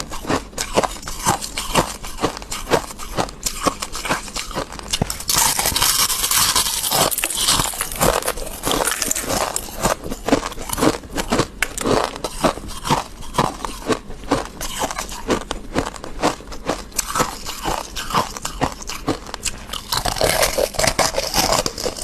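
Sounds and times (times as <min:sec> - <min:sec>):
crunchy chewing of frost: 0:00.0 - 0:22.0.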